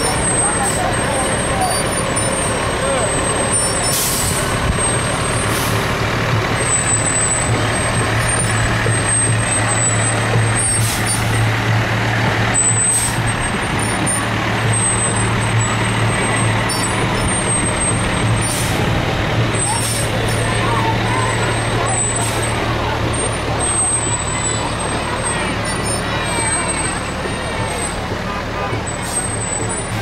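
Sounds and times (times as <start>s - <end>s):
fire engine running: 0.0s - 30.0s.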